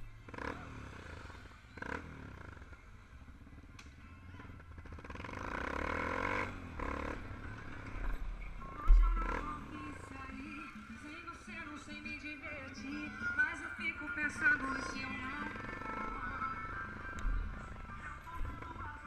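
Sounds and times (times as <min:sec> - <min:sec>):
motorcycle engines running: 0:00.0 - 0:19.0.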